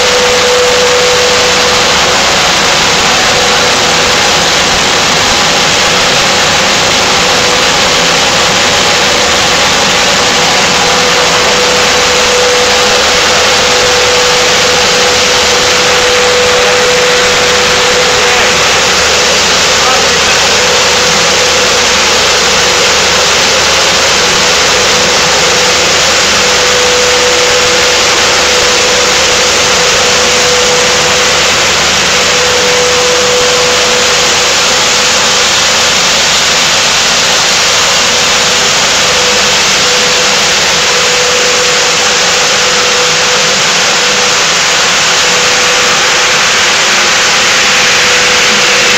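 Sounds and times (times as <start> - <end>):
machine rushing noise with tone: 0.0 - 48.9.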